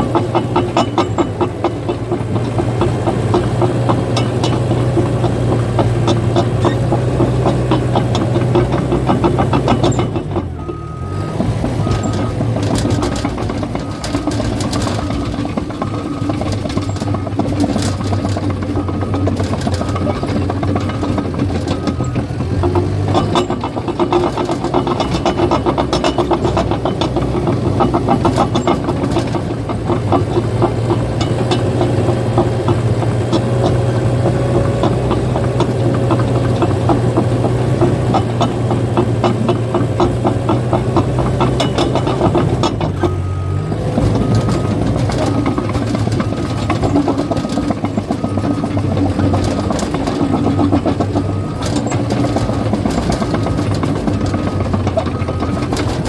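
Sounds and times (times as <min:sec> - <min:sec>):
bulldozer diesel engine: 0:00.0 - 0:56.0
steel tracks clattering: 0:00.0 - 0:56.0.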